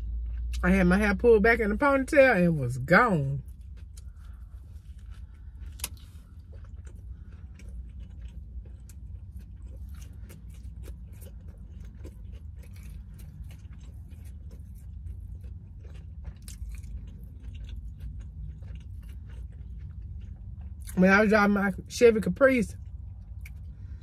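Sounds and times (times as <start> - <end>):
chewing with moist clicks: 0.0 - 1.0, 3.2 - 24.0
low steady rumble: 0.0 - 24.0.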